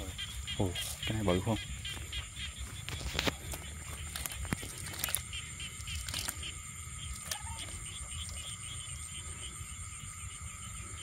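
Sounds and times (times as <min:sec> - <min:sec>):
insect chirps: 0:00.0 - 0:11.0
insects trilling: 0:00.0 - 0:11.0.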